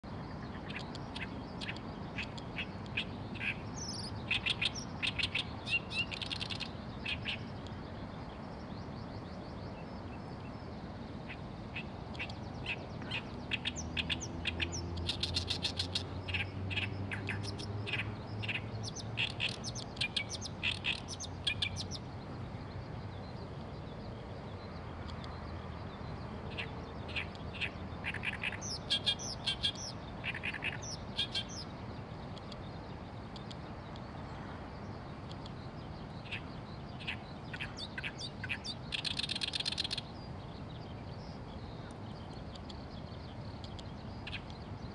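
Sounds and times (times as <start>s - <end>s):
reed warbler singing harsh song: 0.2s - 8.7s, 9.3s - 44.9s.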